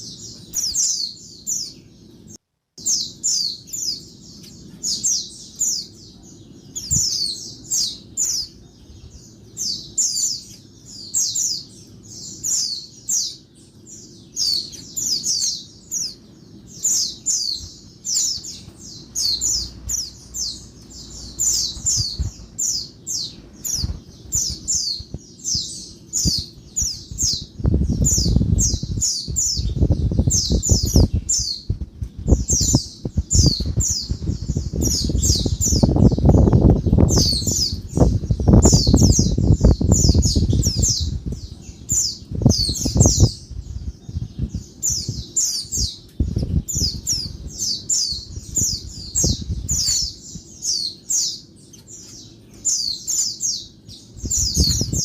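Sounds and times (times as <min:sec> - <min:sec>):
bird high chirps: 0:00.0 - 0:55.0.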